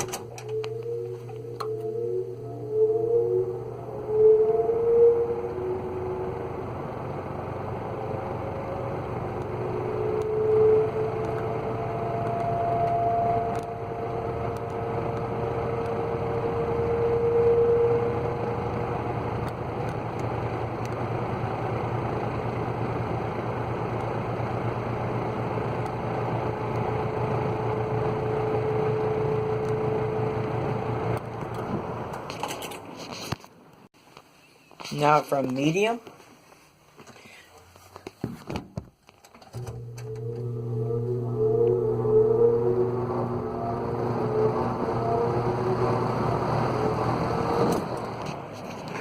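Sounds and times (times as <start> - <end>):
faint whining tones: 0.0 - 24.1, 24.7 - 32.8, 39.4 - 49.0
box fan motor humming: 0.0 - 32.2, 39.6 - 49.0.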